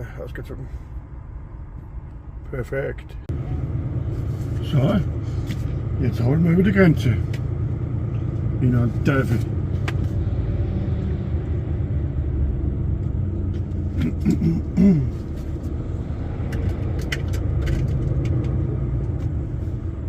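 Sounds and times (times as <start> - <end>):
lorry engine and tyres rumble: 0.0 - 20.0.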